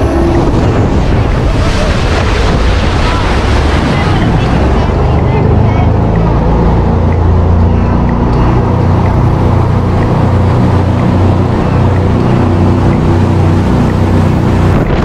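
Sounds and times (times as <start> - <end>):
boat engine drone: 0.0 - 15.0
water rushing past hull: 0.0 - 15.0.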